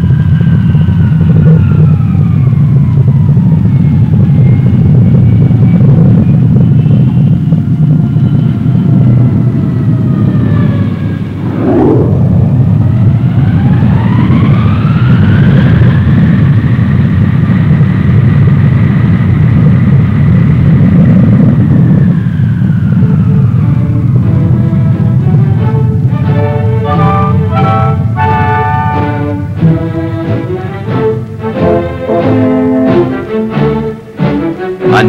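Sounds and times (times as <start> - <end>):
turbine whine: 0.0 - 34.8
jet engines rumbling: 0.0 - 35.0.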